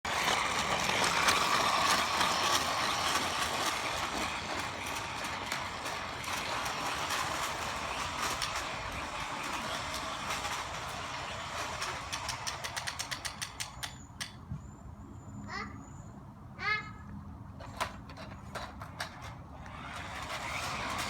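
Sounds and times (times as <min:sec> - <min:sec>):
toy truck rattling as it rolls: 0:00.1 - 0:14.4, 0:17.6 - 0:21.0.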